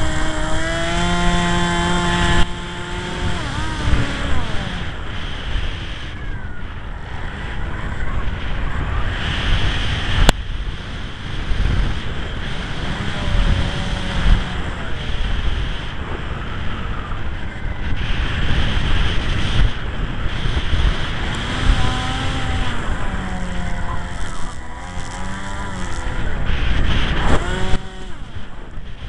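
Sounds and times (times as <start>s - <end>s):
model plane motor whining: 0.0s - 29.0s
wind buffeting microphone: 0.0s - 29.0s.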